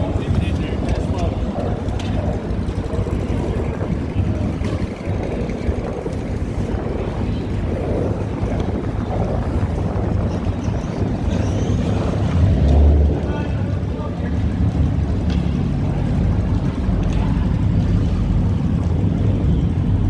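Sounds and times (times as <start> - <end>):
low rumble of vehicles: 0.0 - 20.0
wind buffeting microphone: 0.0 - 20.0.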